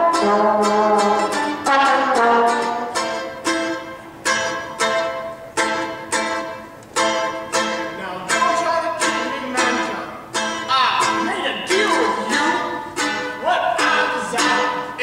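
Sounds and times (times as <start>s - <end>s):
mandolin strumming chords: 0.0s - 15.0s.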